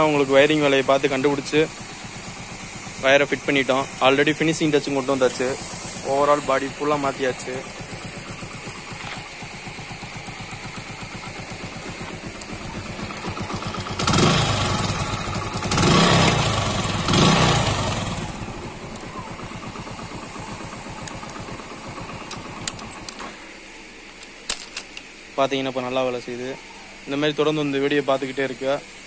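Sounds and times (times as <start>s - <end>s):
motorcycle engine idling and revving: 0.0s - 24.7s.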